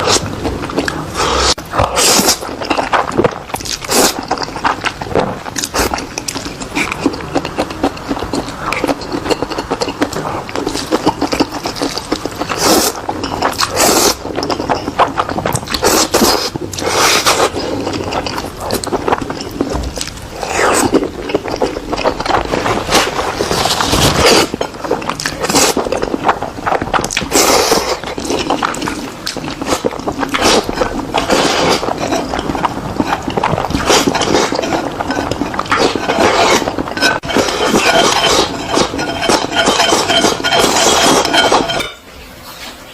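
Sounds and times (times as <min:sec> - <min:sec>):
noodle slurping: 0:00.0 - 0:41.9
wet chewing and mouth clicks: 0:00.0 - 0:41.9.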